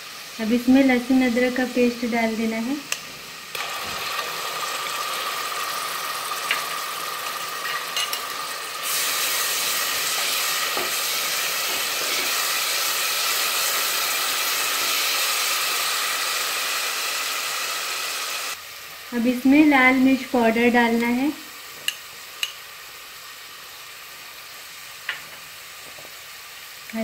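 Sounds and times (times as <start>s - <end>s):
paste sizzling in hot oil: 0.0s - 27.0s.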